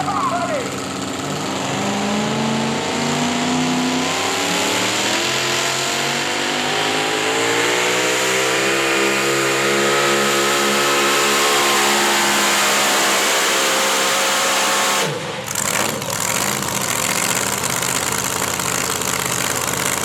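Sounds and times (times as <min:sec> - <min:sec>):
engine at full throttle: 0:00.0 - 0:20.0.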